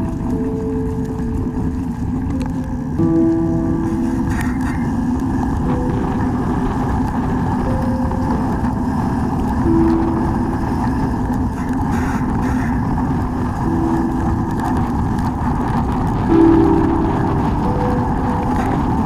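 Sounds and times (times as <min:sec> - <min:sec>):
bike rolling rumble: 0:00.0 - 0:19.0
wind buffeting: 0:00.0 - 0:19.0.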